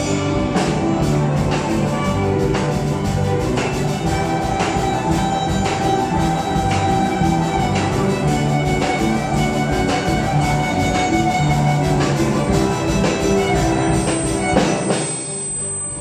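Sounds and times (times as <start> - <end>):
instrumental ensemble playing polka: 0.0 - 15.6
steady drum beat: 0.0 - 16.0.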